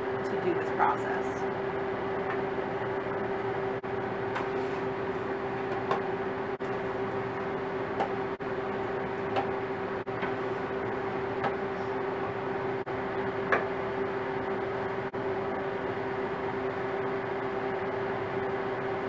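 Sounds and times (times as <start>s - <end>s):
freeze dryer humming: 0.0s - 19.0s.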